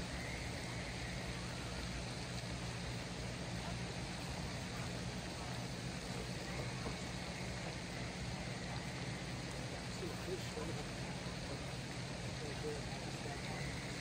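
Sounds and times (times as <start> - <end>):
background hiss: 0.0 - 14.0
low hum: 0.0 - 14.0.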